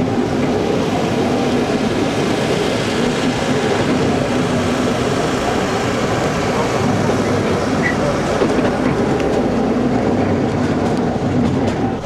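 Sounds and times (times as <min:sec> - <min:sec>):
train wheels rattling on rails: 0:00.0 - 0:12.0.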